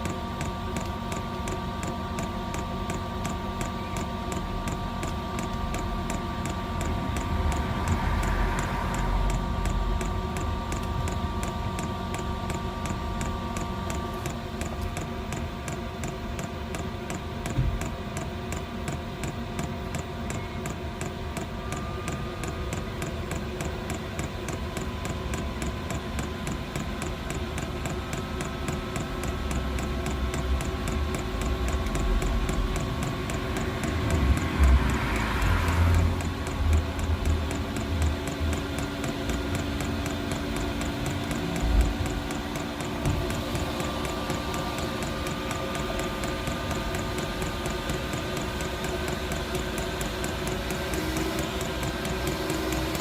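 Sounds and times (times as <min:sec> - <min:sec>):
combustion fan hum: 0:00.0 - 0:53.0
fuel pump ticking: 0:00.0 - 0:53.0.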